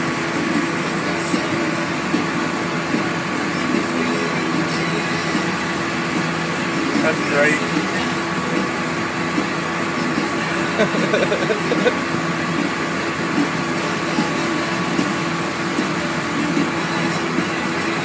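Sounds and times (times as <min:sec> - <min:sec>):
heavy machinery drone: 0:00.0 - 0:18.0
faint voices: 0:00.4 - 0:18.0.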